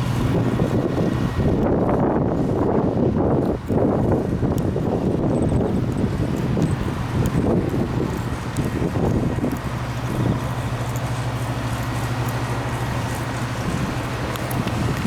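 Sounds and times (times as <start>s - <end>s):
engine humming: 0.0s - 15.0s
wind on microphone: 0.0s - 15.0s.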